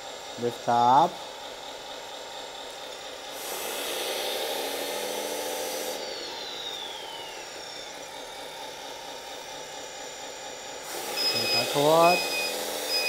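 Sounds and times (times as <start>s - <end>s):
hydraulic pump whining: 0.0s - 13.0s.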